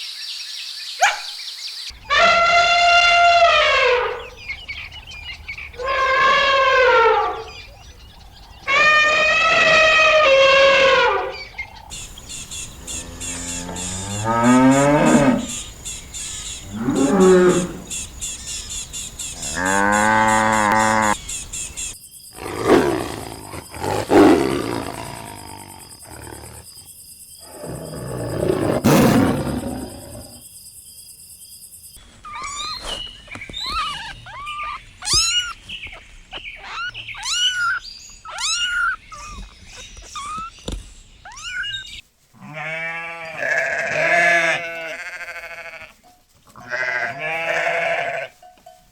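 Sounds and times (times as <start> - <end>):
farm animal calls: 1.9 - 26.7, 32.2 - 48.8.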